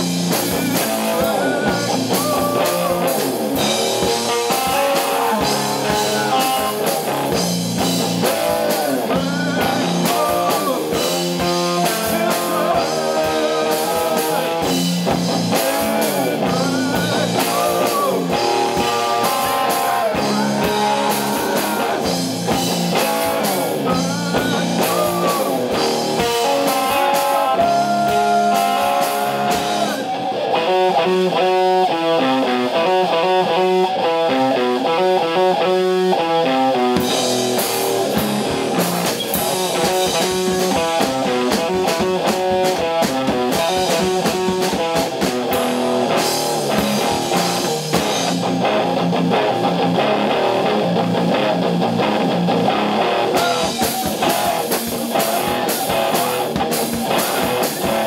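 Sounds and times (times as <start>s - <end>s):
drum kit: 0.0s - 34.0s, 35.6s - 58.0s
distorted electric guitar: 0.0s - 58.0s.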